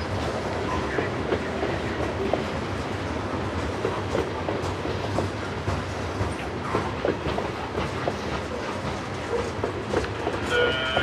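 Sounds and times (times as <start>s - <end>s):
train wheels clicking over rail joints: 0.0s - 11.0s.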